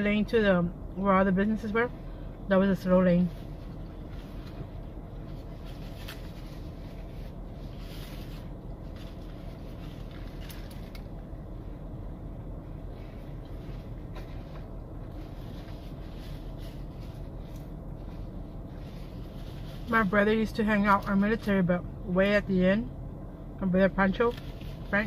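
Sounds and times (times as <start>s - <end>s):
car cabin hum: 0.0s - 25.0s.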